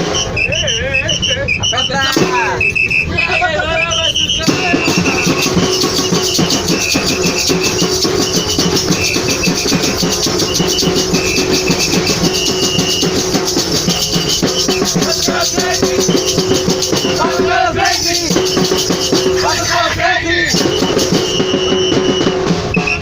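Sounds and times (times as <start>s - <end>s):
percussion band drums and shakers: 0.0s - 23.0s.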